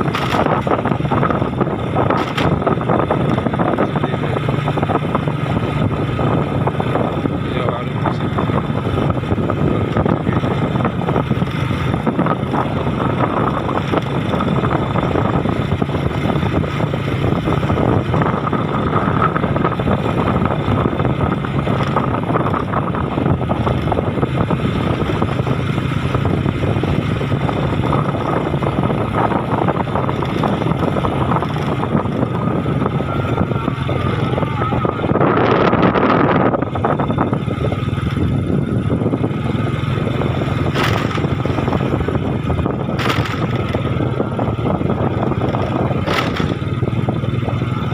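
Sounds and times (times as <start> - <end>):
road and wind noise: 0.0 - 47.9
vehicle engine running: 0.0 - 47.9.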